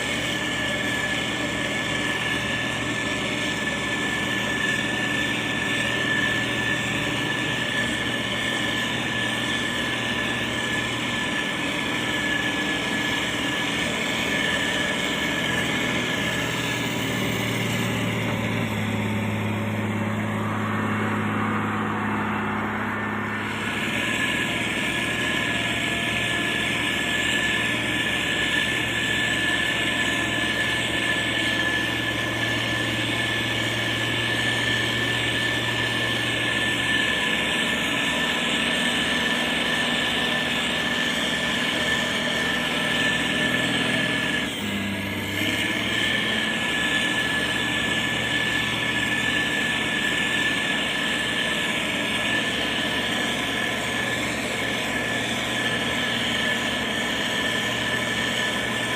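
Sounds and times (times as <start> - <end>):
diesel engine running: 0.0 - 58.9
high whine: 0.0 - 58.9.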